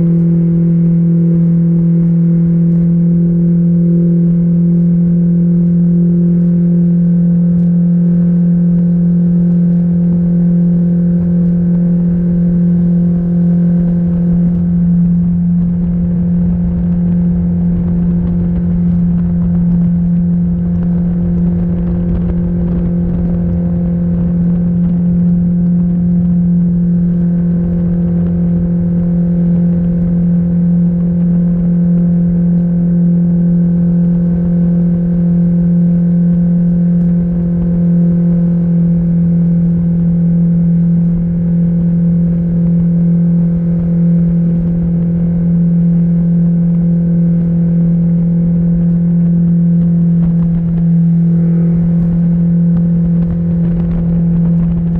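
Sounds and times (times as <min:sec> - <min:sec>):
outboard engine drone: 0:00.0 - 0:54.9
rushing wind and water: 0:00.0 - 0:54.9.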